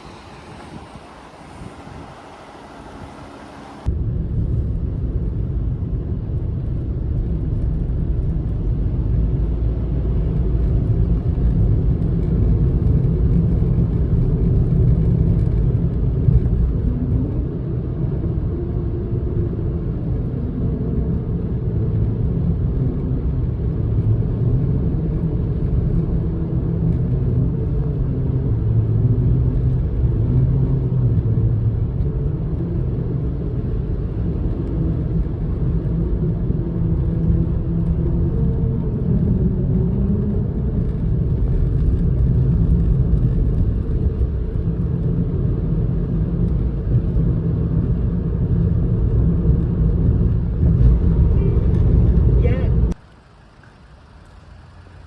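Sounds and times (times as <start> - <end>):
road vehicle rumble: 0.0 - 55.0.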